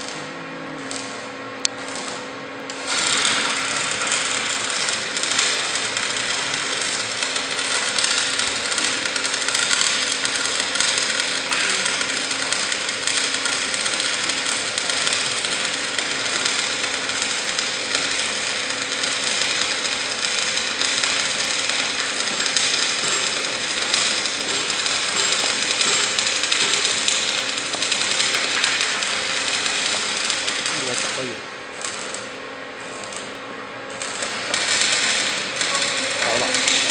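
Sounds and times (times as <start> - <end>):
welding arc crackling hiss: 0.0 - 36.9.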